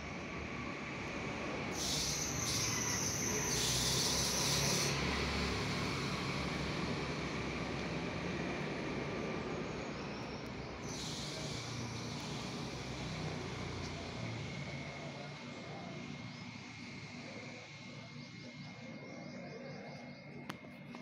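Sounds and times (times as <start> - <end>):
outdoor background rumble: 0.0 - 21.0.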